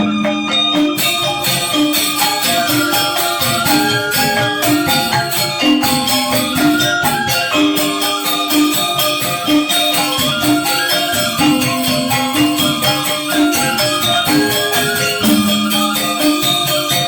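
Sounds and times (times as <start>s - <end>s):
gamelan ensemble playing: 0.0s - 17.0s
jingling shimmer: 0.0s - 17.0s
metallic gong-chimes: 0.0s - 17.0s.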